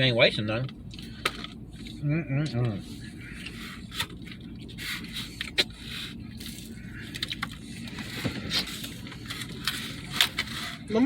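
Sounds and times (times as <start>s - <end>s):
clicks and scrapes of eating: 0.7s - 10.9s.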